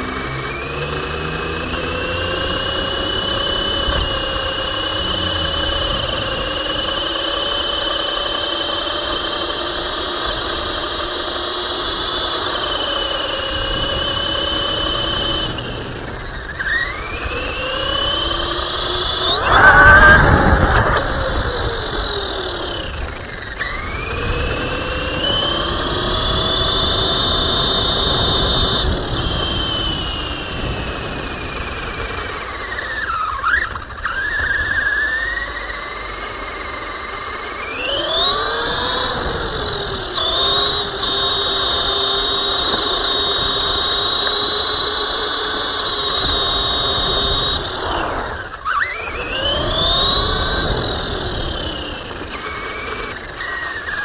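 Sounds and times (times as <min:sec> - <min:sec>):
electric toy car motor whining: 0:00.0 - 0:54.0
wheels rumbling on pavement: 0:00.0 - 0:54.0.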